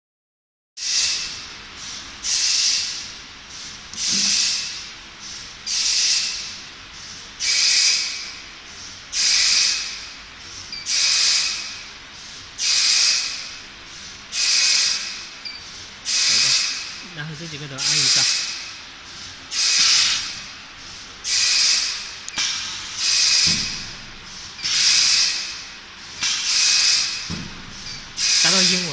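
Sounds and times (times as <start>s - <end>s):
air hissing in bursts: 0.8s - 28.9s.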